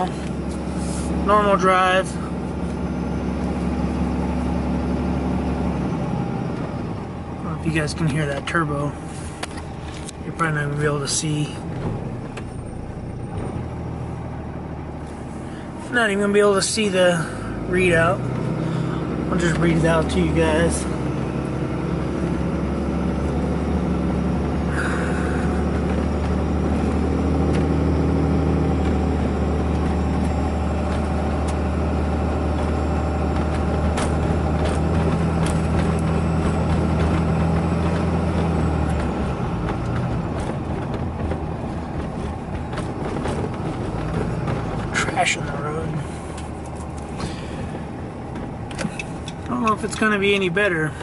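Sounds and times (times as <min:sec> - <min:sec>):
diesel engine drone: 0:00.0 - 0:51.0.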